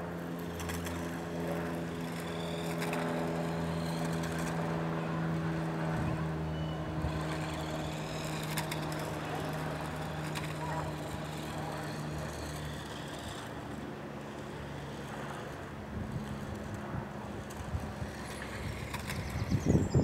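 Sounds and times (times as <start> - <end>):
model motor humming: 0.0 - 20.0.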